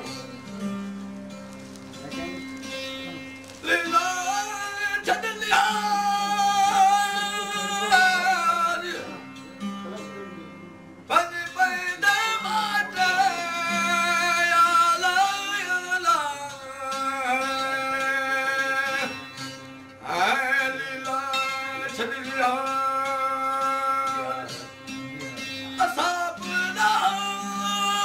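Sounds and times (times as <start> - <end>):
man singing folk song: 0.0 - 1.4, 2.0 - 28.0
droning plucked lutes: 0.0 - 28.0.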